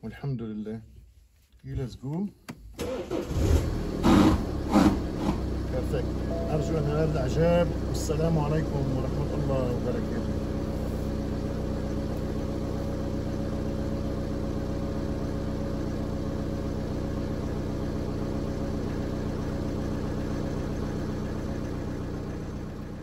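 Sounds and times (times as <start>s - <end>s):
car engine idling: 2.8s - 23.0s.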